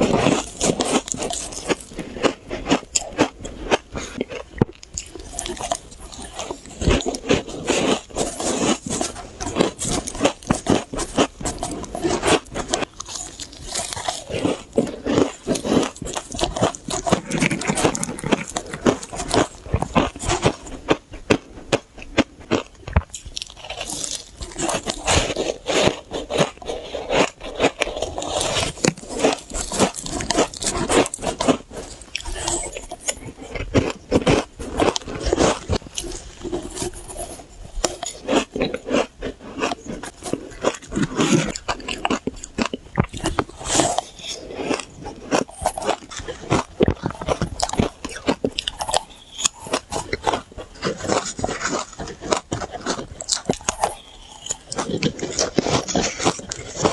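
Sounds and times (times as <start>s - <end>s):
crunching shaved ice: 0.0s - 56.9s.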